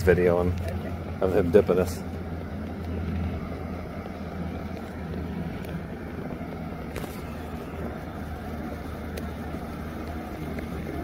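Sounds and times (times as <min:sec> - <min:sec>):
boat engine hum: 0:00.0 - 0:11.0.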